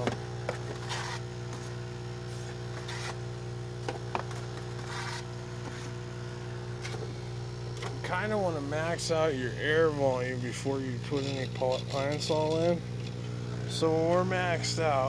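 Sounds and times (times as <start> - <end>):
air pump humming: 0.0 - 15.0.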